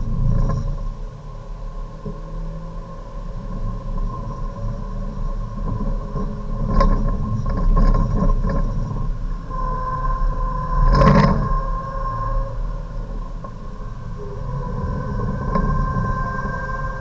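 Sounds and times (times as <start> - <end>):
high whine: 0.0 - 17.0
road rumble: 0.0 - 17.0.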